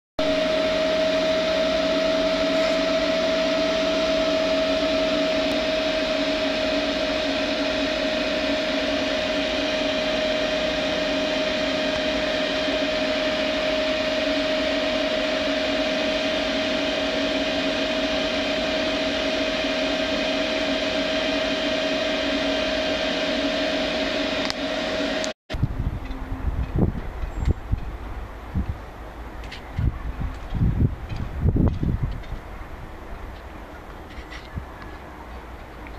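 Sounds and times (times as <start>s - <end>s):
machine hum with whining tone: 0.2s - 35.9s.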